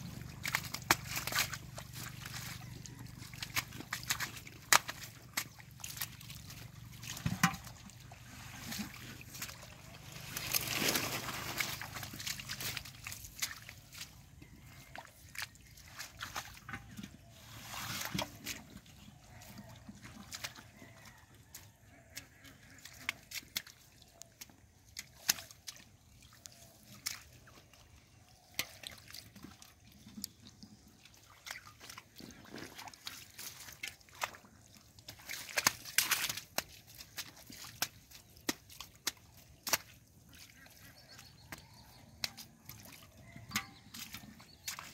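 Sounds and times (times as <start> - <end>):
fish thrashing in water: 0.0 - 44.9
water splashes: 0.0 - 44.9.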